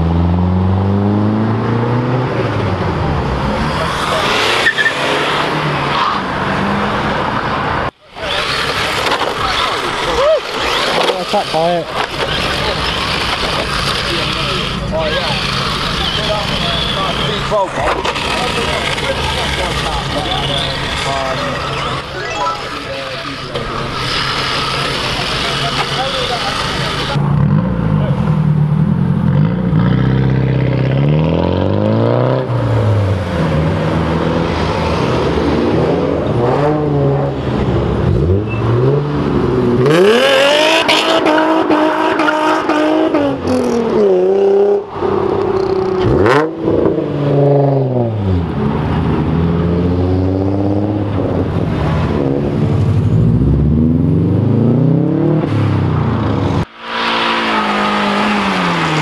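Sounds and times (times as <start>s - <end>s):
sports car engines revving: 0.0s - 59.0s.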